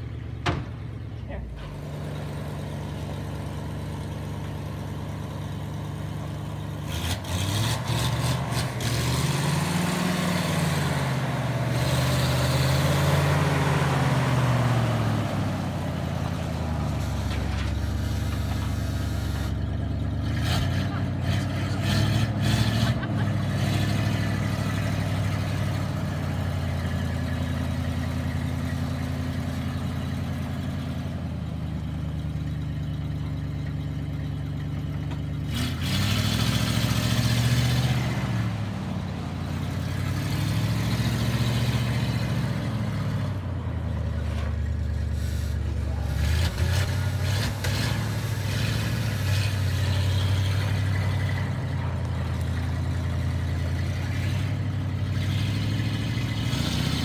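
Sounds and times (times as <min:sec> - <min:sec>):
truck engine revving: 0:00.0 - 0:57.0
tyres on gravel: 0:06.1 - 0:31.8, 0:34.5 - 0:57.0.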